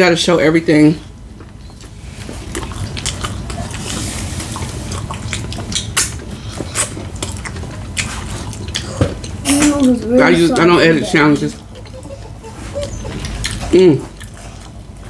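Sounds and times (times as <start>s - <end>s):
chewing and handling food: 1.1s - 15.0s.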